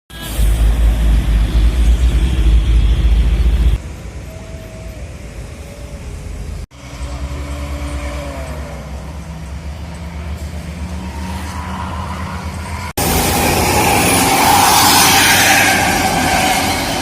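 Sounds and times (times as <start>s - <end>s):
heavy low traffic rumble: 0.1s - 15.0s
vehicles passing by: 0.2s - 17.0s.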